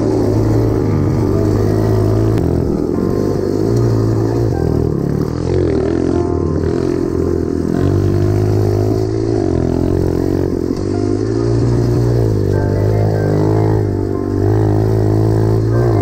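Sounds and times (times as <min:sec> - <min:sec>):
small engine revving: 0:00.0 - 0:16.0.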